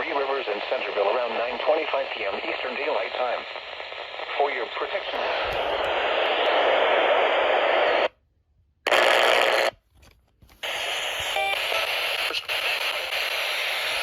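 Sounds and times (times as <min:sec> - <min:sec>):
radio static hiss: 0:00.0 - 0:08.1, 0:08.9 - 0:09.7, 0:10.6 - 0:14.0.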